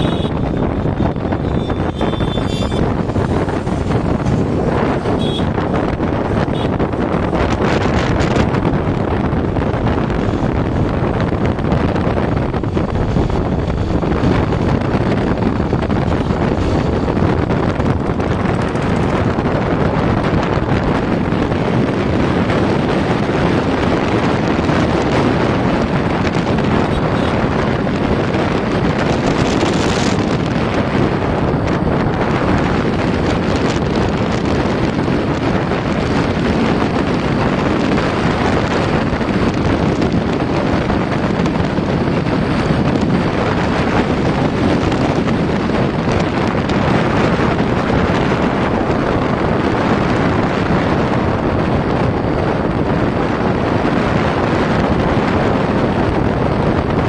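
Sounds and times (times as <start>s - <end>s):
motorcycle running: 0.0s - 57.0s
road noise: 0.0s - 57.0s
wind buffeting microphone: 0.0s - 57.0s.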